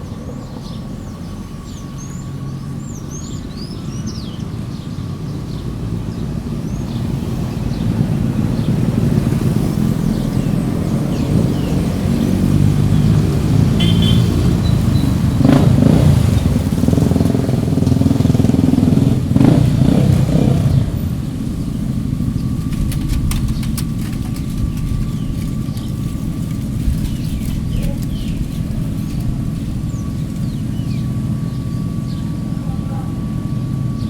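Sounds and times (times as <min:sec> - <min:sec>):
steady traffic hum: 0:00.0 - 0:34.0
vehicle engine running close: 0:00.0 - 0:34.0.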